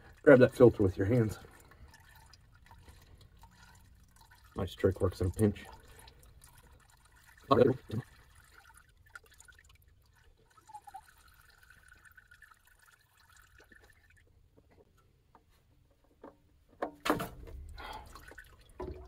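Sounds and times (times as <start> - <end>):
oil trickling and dripping: 0.0 - 15.4, 17.2 - 19.0.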